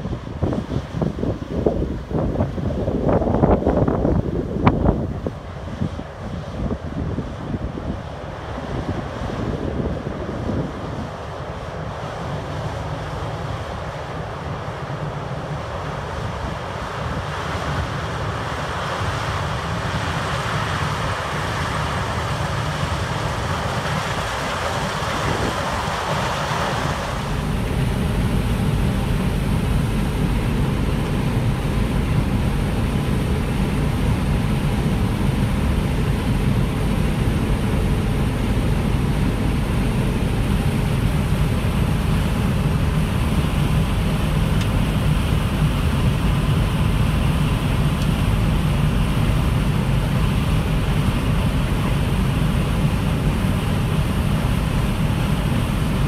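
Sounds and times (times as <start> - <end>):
harvest machinery engine drone: 0.0 - 56.0.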